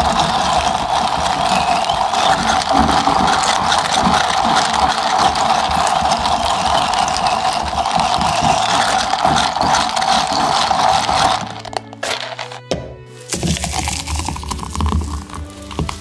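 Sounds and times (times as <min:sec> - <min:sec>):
spoon stirring iced drink: 0:00.0 - 0:12.7, 0:13.3 - 0:16.0.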